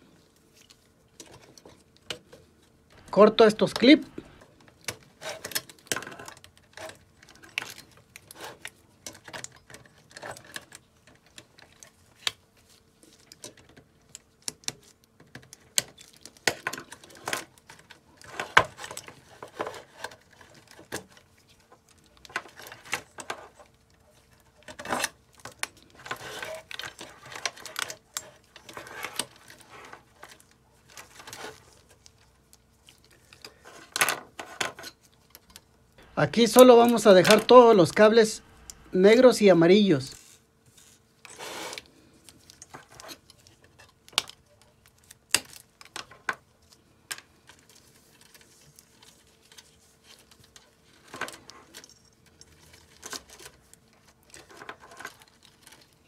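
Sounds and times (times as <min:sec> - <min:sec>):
wires rustling: 0:00.0 - 0:15.0, 0:15.6 - 0:56.0.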